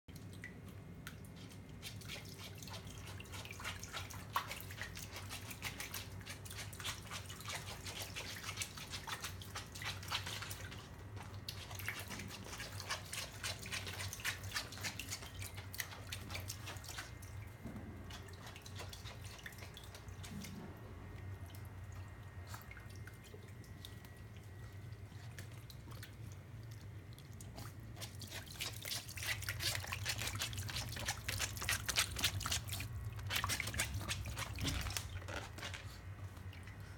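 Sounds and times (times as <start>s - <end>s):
water splashing and dripping: 0.1s - 36.9s.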